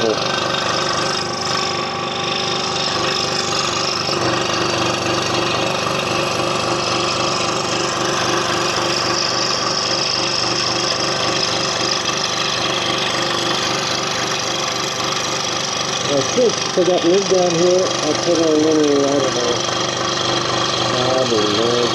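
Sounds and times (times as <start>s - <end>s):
scroll saw cutting wood: 0.0s - 21.9s.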